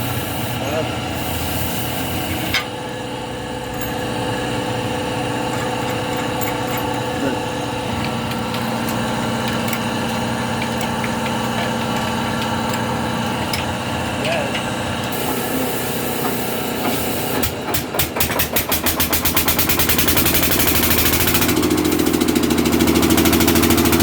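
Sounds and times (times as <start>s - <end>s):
motor running steadily: 0.0s - 24.0s.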